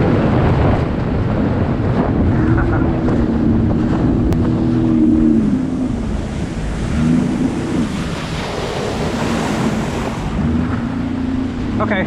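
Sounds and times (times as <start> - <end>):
rushing water and spray: 0.0 - 12.0
watercraft engine: 0.0 - 12.0
wind buffeting microphone: 0.0 - 12.0.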